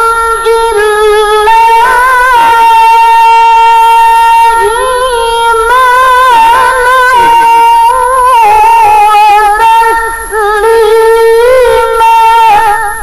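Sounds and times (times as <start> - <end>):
woman reciting melodically: 0.0 - 13.0.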